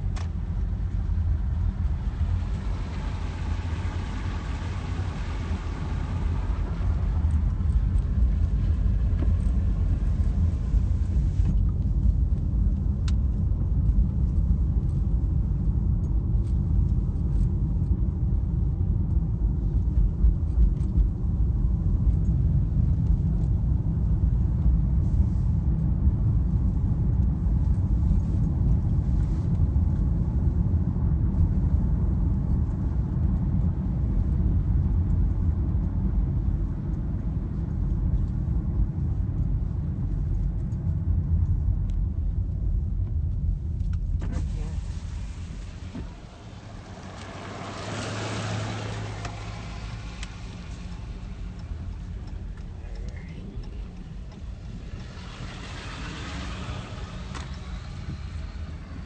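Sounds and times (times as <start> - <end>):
car interior road noise: 0.0 - 59.0.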